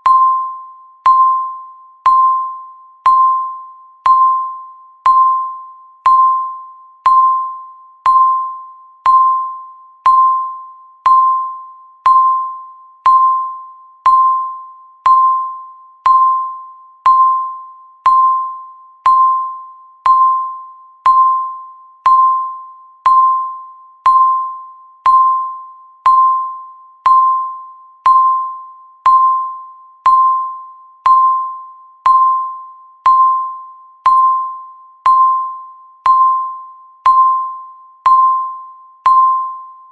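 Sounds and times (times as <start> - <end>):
electronic timer ping: 0.0 - 39.9.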